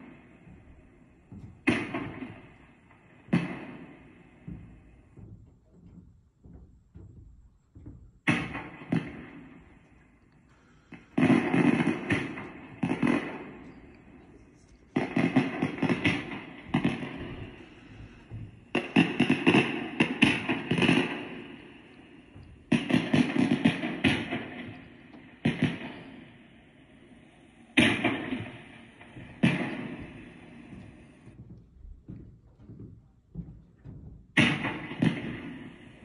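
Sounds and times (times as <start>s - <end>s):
crackling firework sound effects: 0.0s - 5.4s, 8.2s - 31.4s, 34.3s - 36.0s.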